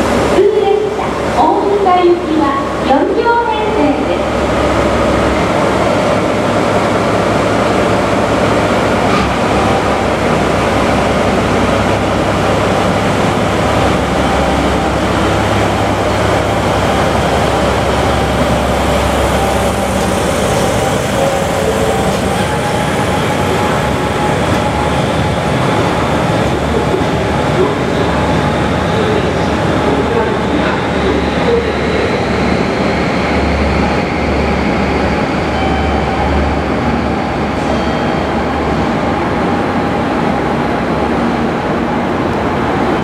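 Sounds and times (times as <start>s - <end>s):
diesel locomotive engine running: 0.0s - 43.0s.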